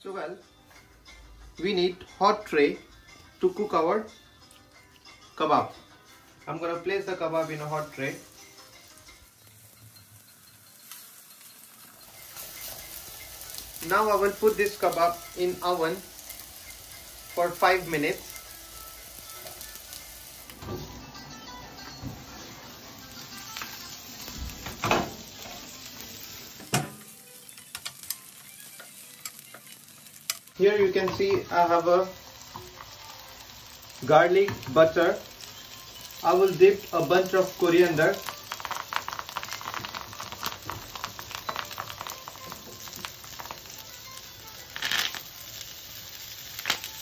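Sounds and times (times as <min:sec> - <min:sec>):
butter sizzling in pan: 0:06.6 - 0:47.0.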